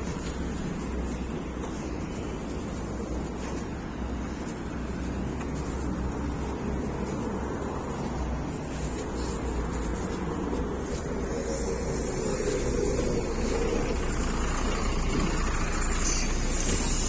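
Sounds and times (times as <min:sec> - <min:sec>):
bus cabin noise: 0:00.0 - 0:17.0
bus engine rumble: 0:00.0 - 0:17.0.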